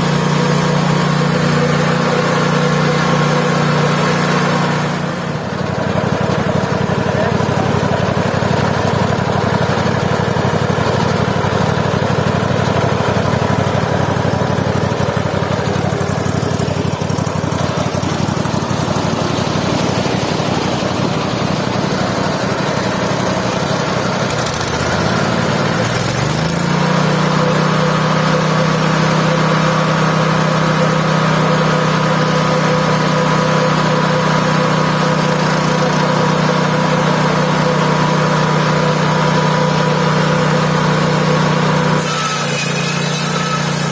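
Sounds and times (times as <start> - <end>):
sawmill engine running: 0.0 - 43.9.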